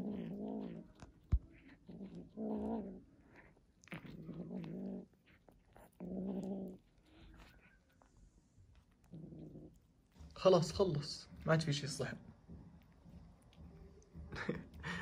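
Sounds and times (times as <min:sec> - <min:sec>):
kitten growling: 0:00.0 - 0:10.4, 0:12.8 - 0:15.0.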